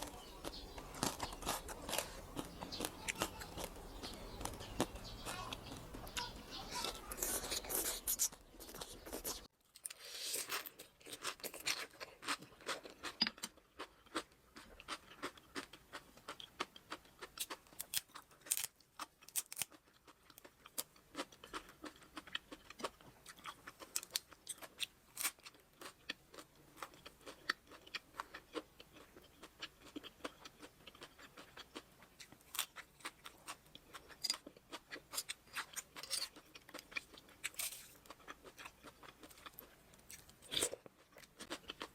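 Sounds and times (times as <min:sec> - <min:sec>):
crisp eating crunches: 0:00.0 - 0:41.9.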